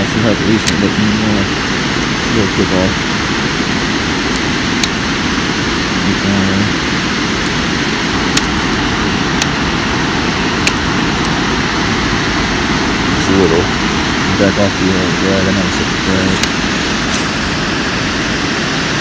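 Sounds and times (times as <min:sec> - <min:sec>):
rushing outdoor noise: 0:00.0 - 0:19.0.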